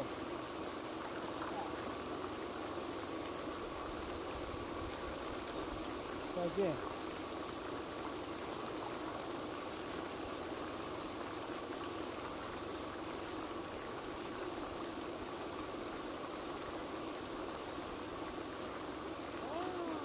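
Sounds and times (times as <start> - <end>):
faint steady hum: 0.0 - 20.0
fountain spray splashing: 0.0 - 20.0.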